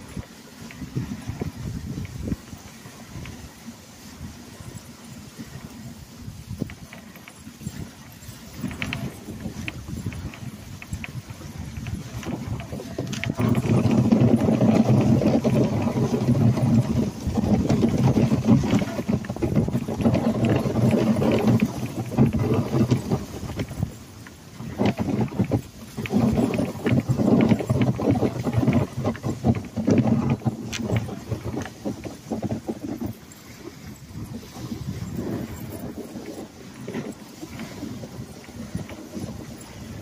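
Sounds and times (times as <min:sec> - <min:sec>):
sled runners scraping on snow: 0:00.0 - 0:40.0.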